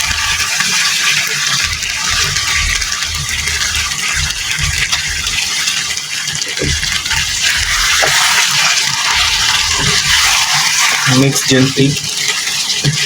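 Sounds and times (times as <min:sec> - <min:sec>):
cream being poured: 0:00.0 - 0:13.0
curry hissing in a pan: 0:00.0 - 0:13.0.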